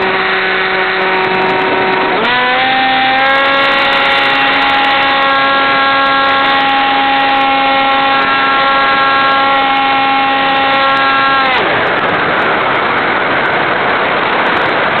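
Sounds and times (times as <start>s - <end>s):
electric motor and propeller whining: 0.0s - 15.0s.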